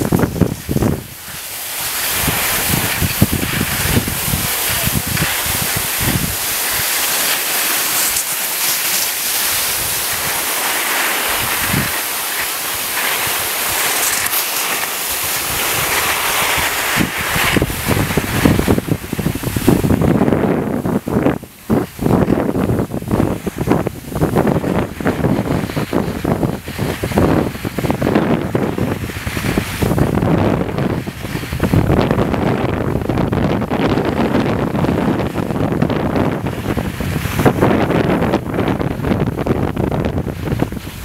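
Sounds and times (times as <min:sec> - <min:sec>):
skis hissing on snow: 0:00.0 - 0:41.0
wind rumble on microphone: 0:00.0 - 0:41.0.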